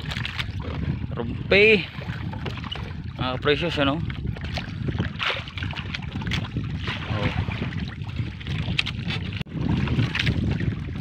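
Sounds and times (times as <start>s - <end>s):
fishing net hauled aboard: 0.0s - 11.0s
water washing around a boat: 0.0s - 11.0s
wind on the microphone: 0.0s - 11.0s.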